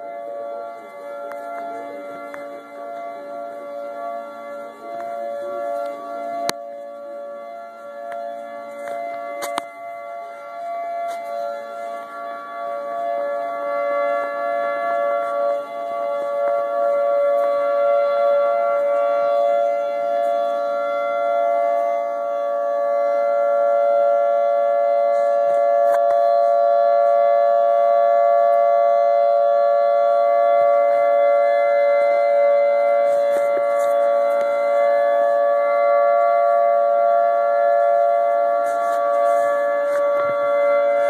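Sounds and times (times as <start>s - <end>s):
warning sirens steady tone: 0.0s - 41.0s.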